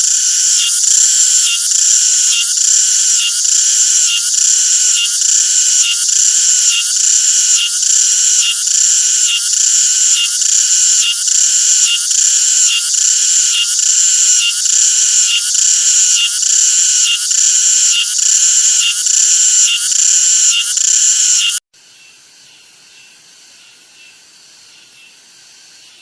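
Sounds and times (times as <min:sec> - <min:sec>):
cicada buzzing: 0:00.0 - 0:21.6.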